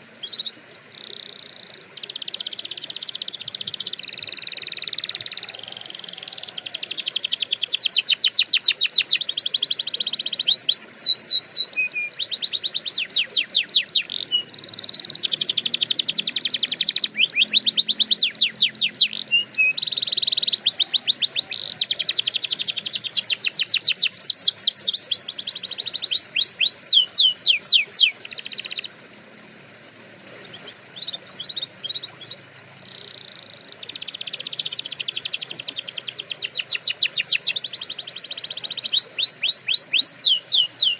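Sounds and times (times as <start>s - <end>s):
canary singing trills: 0.0s - 29.5s, 30.4s - 40.9s.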